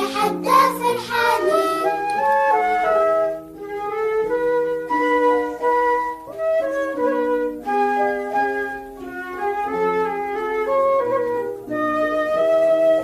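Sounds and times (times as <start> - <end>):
flute-like melody: 0.0 - 13.0.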